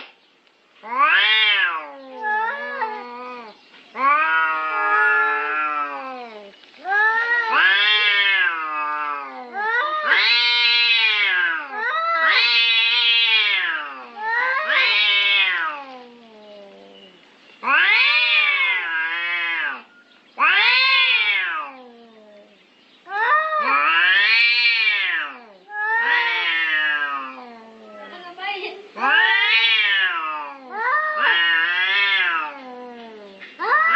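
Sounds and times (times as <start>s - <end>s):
cats yowling: 0.8s - 28.3s, 29.0s - 33.9s.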